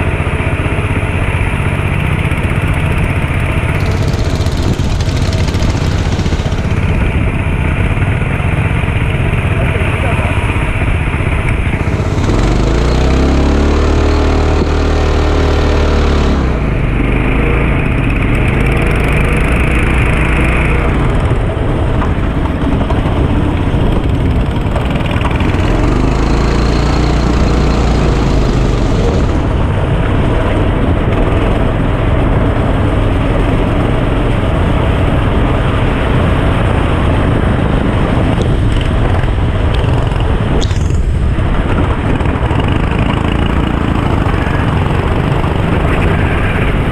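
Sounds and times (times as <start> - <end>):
kart engine revving: 0.0 - 46.9
rushing noise: 0.0 - 46.9.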